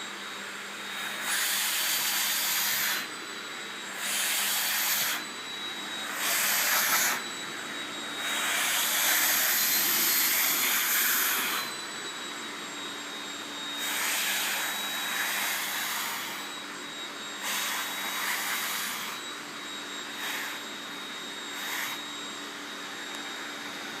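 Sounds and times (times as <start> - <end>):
vacuum cleaner whining: 0.0 - 24.0.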